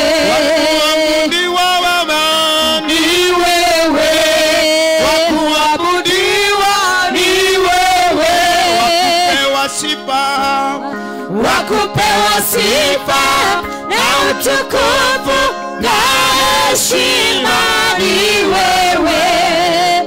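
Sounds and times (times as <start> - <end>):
man singing a worship chant: 0.0 - 20.0.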